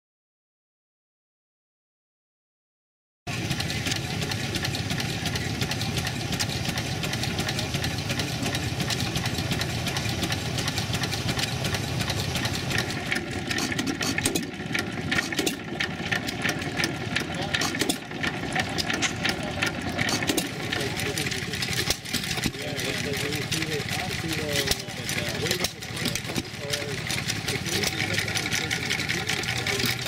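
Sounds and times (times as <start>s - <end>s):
small engine sharp clicks: 3.3s - 30.0s
stationary engine clattering: 3.3s - 30.0s.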